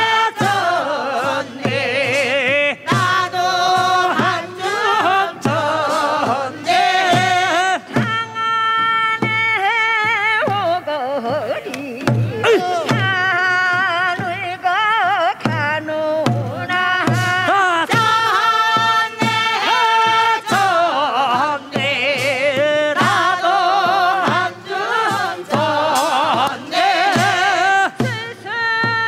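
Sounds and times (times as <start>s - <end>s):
drum strokes: 0.0s - 29.0s
person singing folk song: 0.0s - 29.0s.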